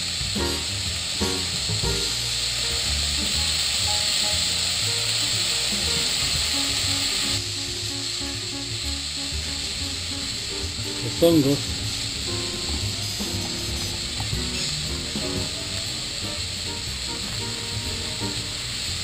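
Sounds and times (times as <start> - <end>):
background music: 0.0 - 19.0
beef and onions sizzling in a pot: 0.0 - 19.0.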